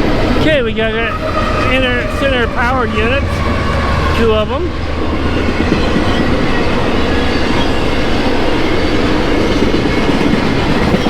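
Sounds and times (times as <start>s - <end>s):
diesel locomotives passing: 0.0s - 11.0s
train wheels on rails: 0.0s - 11.0s.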